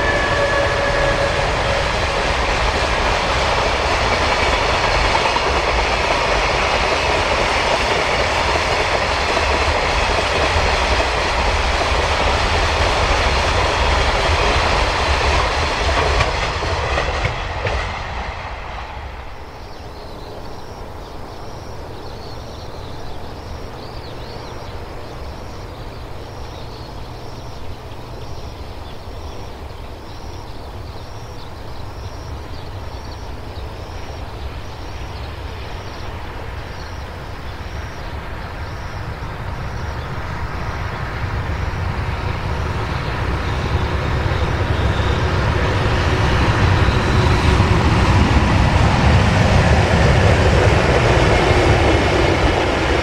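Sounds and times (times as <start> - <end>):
train passing: 0.0 - 53.0.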